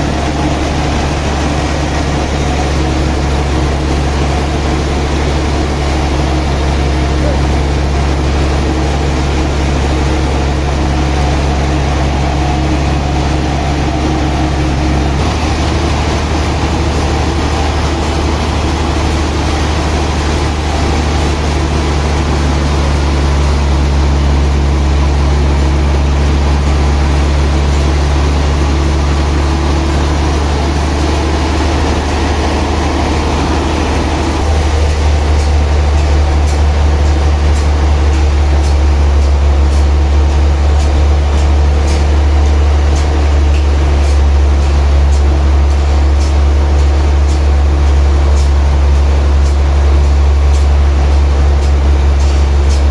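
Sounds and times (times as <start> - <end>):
sawmill machinery humming: 0.0 - 52.9.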